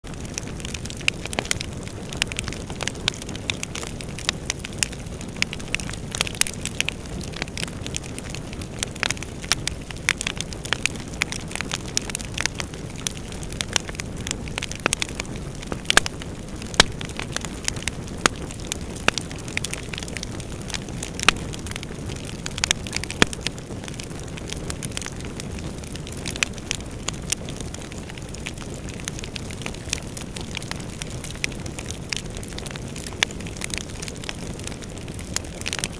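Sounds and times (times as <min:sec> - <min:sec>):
bonfire crackling and popping: 0:00.0 - 0:35.9.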